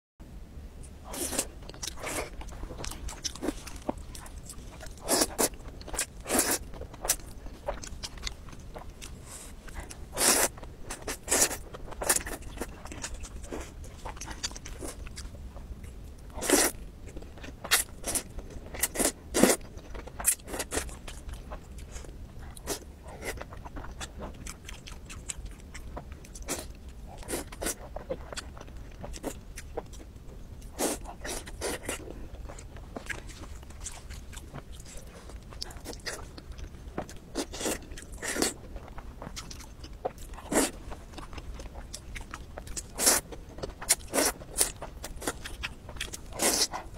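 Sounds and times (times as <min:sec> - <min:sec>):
food bitten and chewed: 0:01.1 - 0:46.9.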